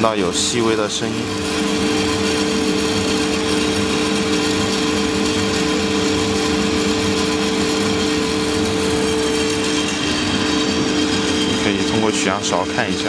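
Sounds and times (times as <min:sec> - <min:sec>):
coffee roaster hum and hiss: 0:00.0 - 0:13.0.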